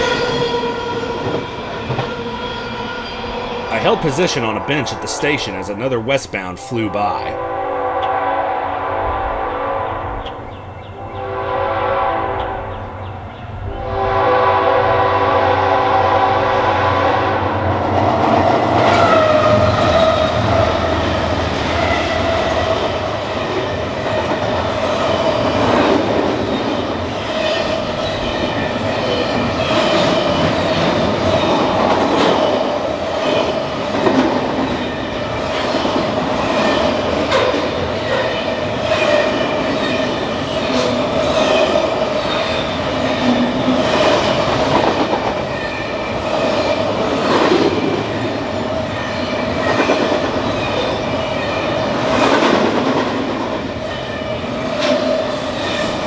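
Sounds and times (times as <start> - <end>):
freight train wheels on rail: 0.0 - 6.4, 7.3 - 56.0.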